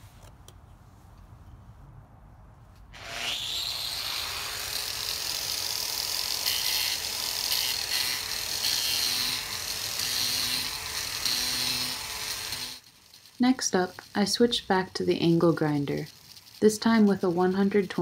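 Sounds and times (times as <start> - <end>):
angle grinder sanding wood: 3.0 - 18.0.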